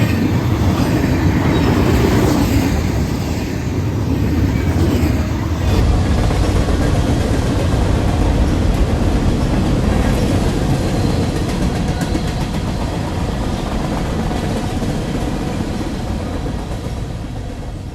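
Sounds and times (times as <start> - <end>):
train wheels rumbling and rattling: 0.0 - 17.9.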